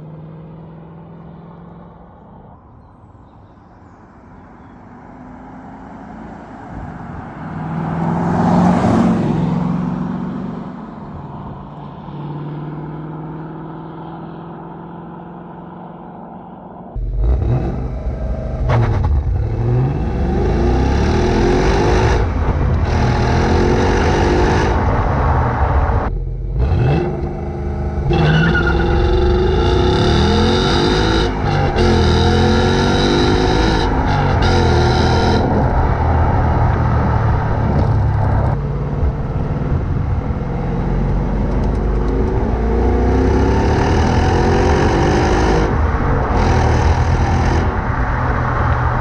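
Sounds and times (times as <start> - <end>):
car engine revving: 3.5 - 16.2, 17.0 - 49.0.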